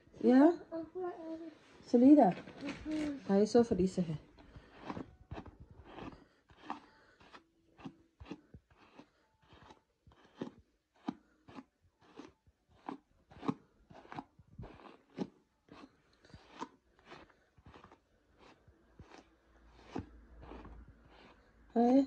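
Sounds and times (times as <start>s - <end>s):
hairbrush brushing hair: 2.4s - 11.2s, 12.0s - 22.0s.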